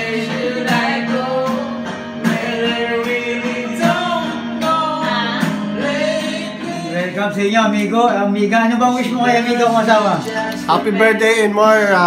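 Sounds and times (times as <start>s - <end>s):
backing track with guitar: 0.0s - 12.0s
person singing karaoke: 0.0s - 12.0s.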